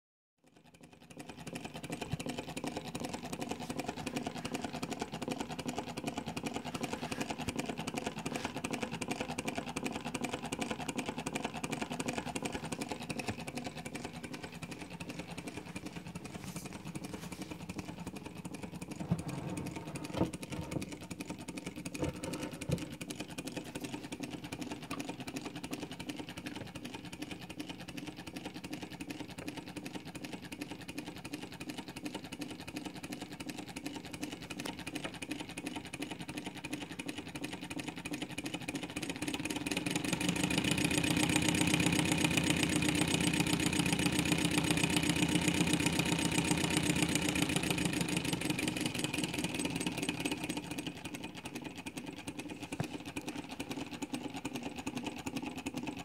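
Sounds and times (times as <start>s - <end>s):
solenoid engine clattering: 0.6s - 56.0s.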